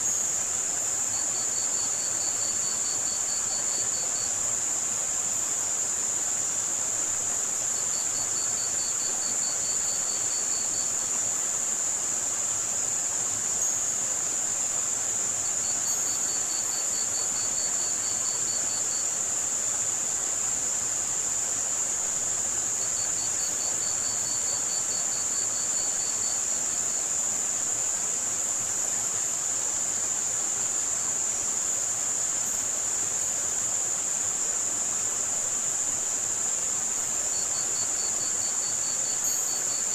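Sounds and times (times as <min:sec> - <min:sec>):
crickets chirping: 0:00.0 - 0:39.9
high-pitched white noise hiss: 0:00.0 - 0:39.9.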